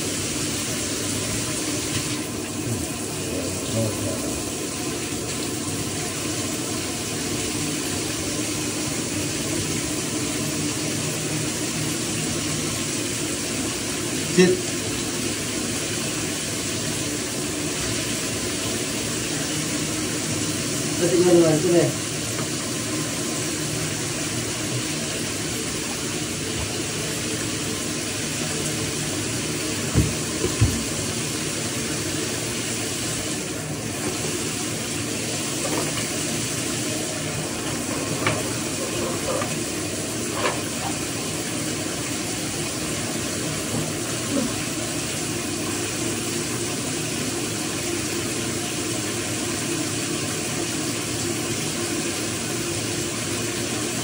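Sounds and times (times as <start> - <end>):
shower water running: 0.0 - 54.0.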